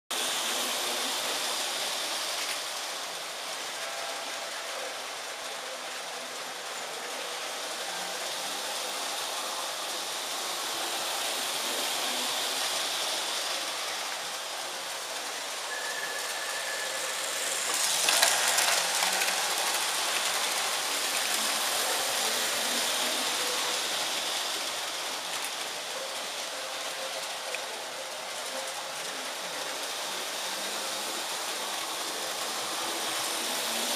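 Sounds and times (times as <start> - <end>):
toy train whirring: 0.1 - 33.9.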